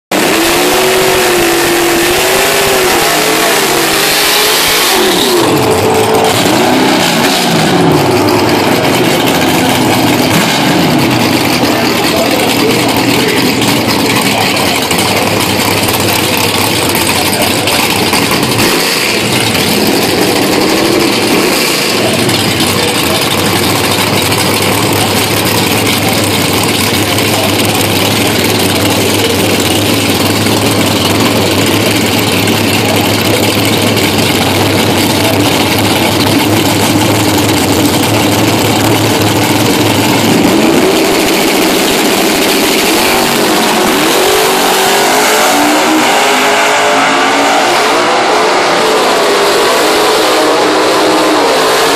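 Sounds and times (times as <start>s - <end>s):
car engine revving: 0.1s - 51.9s
engine idling: 0.1s - 51.9s.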